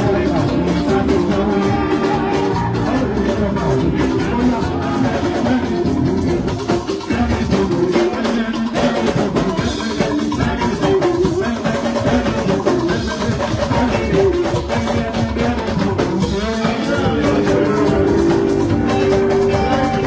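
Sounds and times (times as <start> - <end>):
drum kit beat: 0.0 - 20.0
live band music: 0.0 - 20.0.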